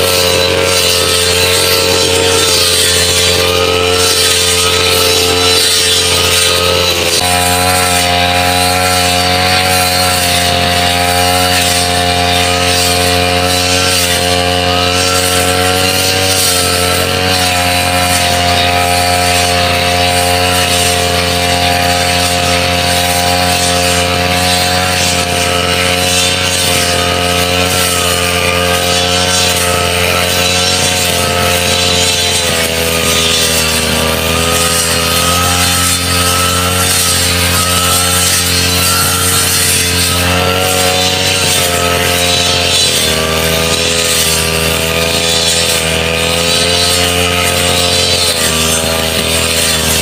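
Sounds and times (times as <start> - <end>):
brush cutter engine cutting grass: 0.0 - 50.0.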